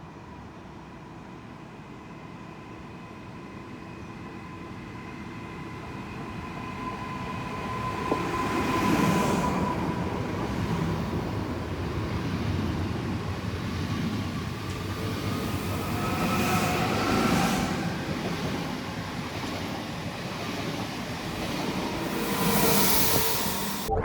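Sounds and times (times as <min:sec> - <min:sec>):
steady train whine: 0:00.0 - 0:24.0
electric train passing: 0:00.2 - 0:23.9.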